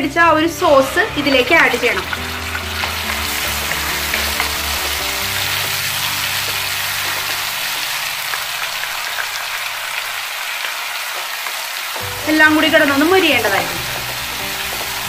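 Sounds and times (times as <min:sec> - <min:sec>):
soft background music: 0:00.0 - 0:09.3, 0:12.0 - 0:15.0
sauce sizzling in hot oil: 0:00.4 - 0:15.0.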